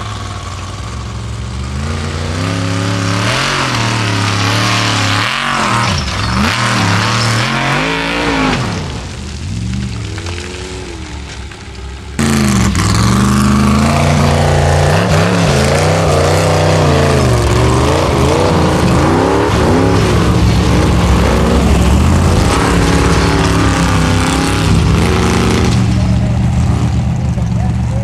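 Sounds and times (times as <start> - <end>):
buggy engine revving hard: 0.0 - 11.4, 12.0 - 28.0.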